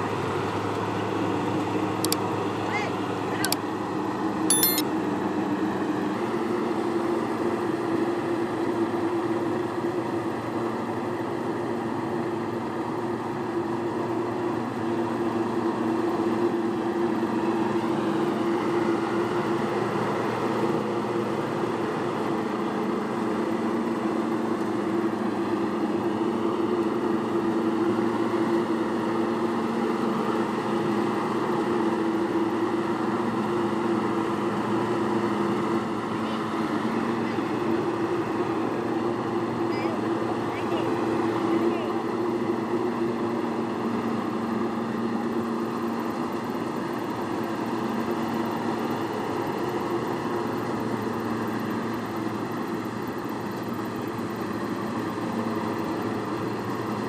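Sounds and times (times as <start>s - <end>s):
farm machine engine running: 0.0s - 57.0s.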